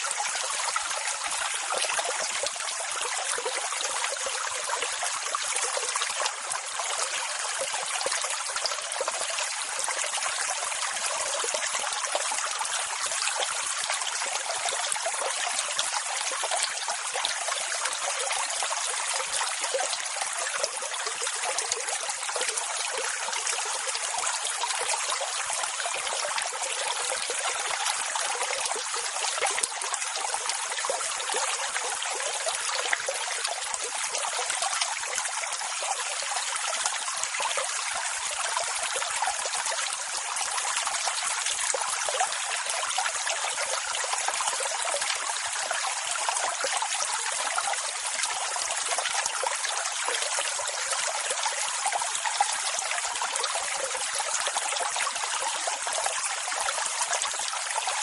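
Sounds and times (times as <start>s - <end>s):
water rushing and trickling: 0.0s - 58.0s.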